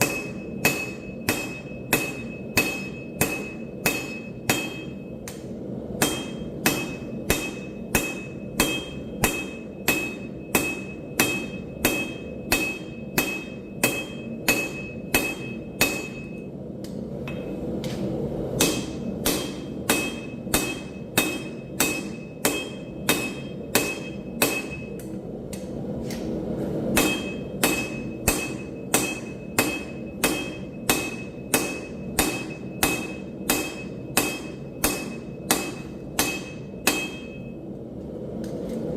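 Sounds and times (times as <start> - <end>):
hammer ringing on anvil: 0.0 - 16.5, 17.3 - 17.6, 18.6 - 25.1, 26.9 - 37.6.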